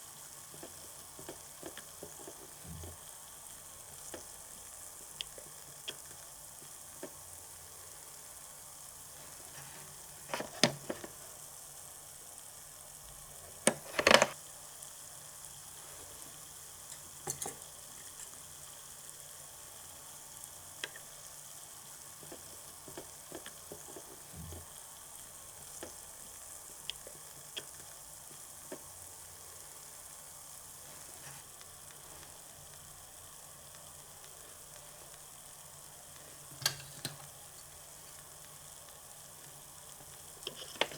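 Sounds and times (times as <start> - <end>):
frying sizzle: 0.0 - 40.9.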